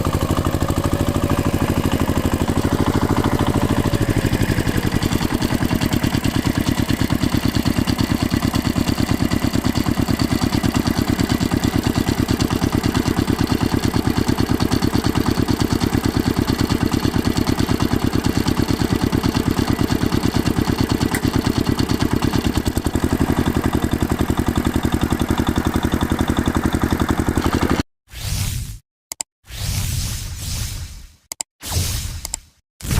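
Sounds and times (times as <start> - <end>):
tractor diesel engine idling: 0.0 - 27.8.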